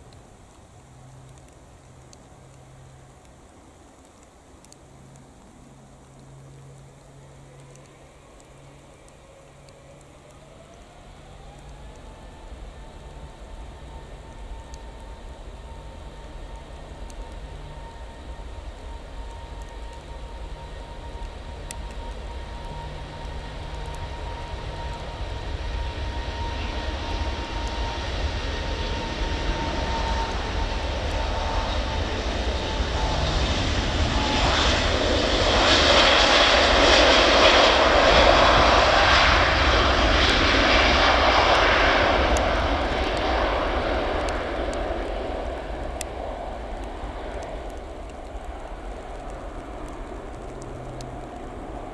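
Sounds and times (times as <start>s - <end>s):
jet engines at take-off thrust: 0.0s - 51.9s
steady high whine: 0.0s - 51.9s.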